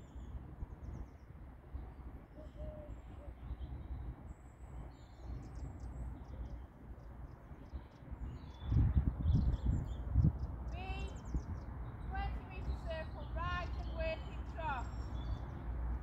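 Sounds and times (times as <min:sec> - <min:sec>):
small birds chirping: 0:00.0 - 0:16.0
wind rumble on microphone: 0:00.0 - 0:16.0.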